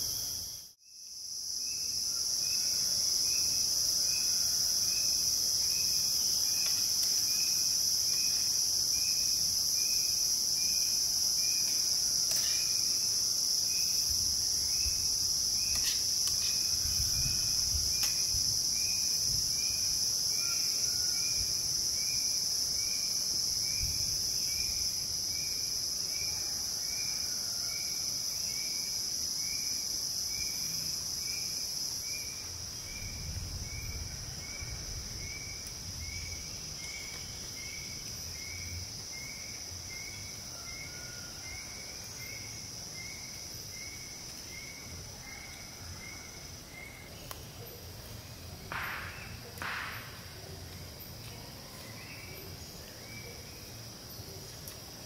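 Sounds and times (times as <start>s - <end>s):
high-pitched insect drone: 0.0s - 47.0s
lower insect chirp: 0.0s - 55.0s.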